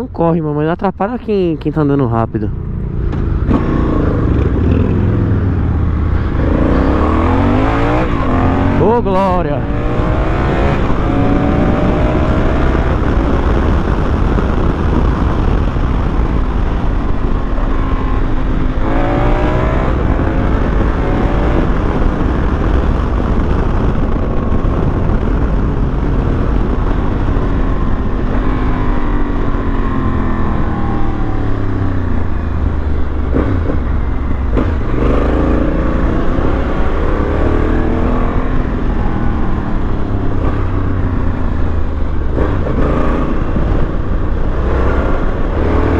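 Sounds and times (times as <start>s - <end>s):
wind rumble on microphone: 0.0s - 45.9s
motorcycle engine accelerating: 2.3s - 45.9s.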